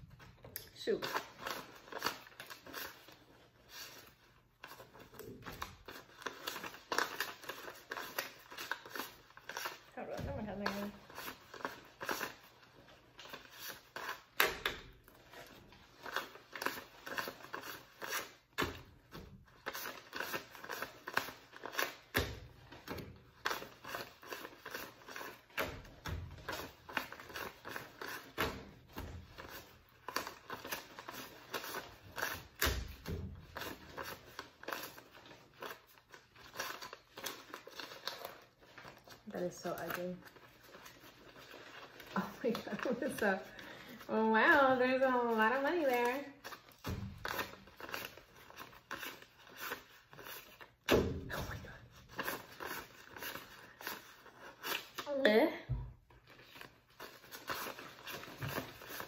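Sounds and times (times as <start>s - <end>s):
banknotes rustling and flicking: 0.1s - 55.3s, 56.1s - 59.0s.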